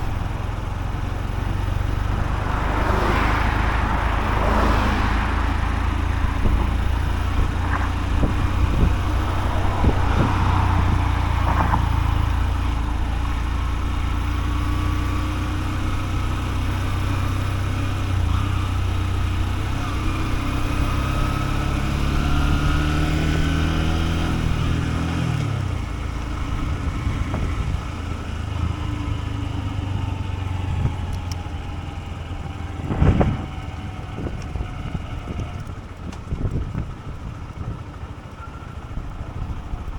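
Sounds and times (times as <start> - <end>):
wind noise on microphone: 0.0 - 14.7, 16.6 - 39.9
motorcycle engine running: 0.0 - 39.9.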